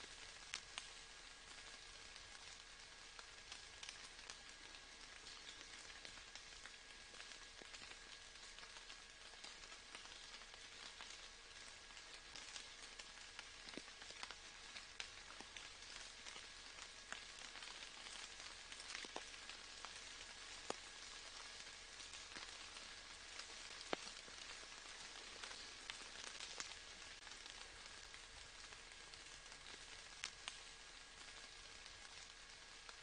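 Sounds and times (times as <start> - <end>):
faint steady rain: 0.0 - 33.0.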